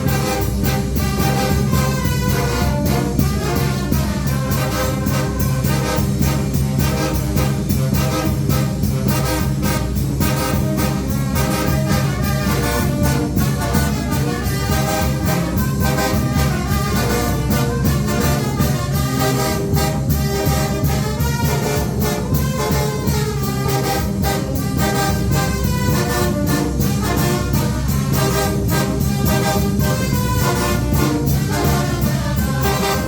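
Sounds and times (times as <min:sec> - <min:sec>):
steady percussion beat: 0:00.0 - 0:33.0
trumpets and trombones playing: 0:00.0 - 0:33.0.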